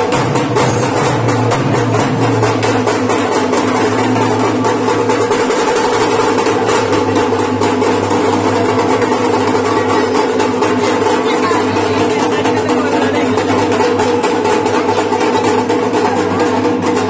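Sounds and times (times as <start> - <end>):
drums beating: 0.0 - 17.0.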